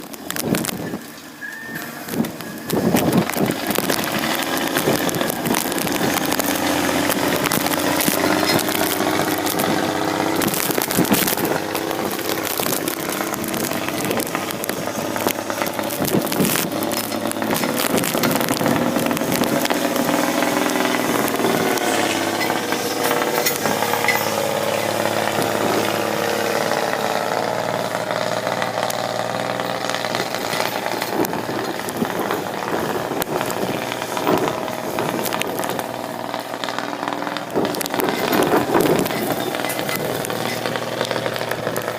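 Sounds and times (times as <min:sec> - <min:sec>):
small clicks and knocks: 0:00.0 - 0:41.9
snow vehicle engine running: 0:00.0 - 0:41.9.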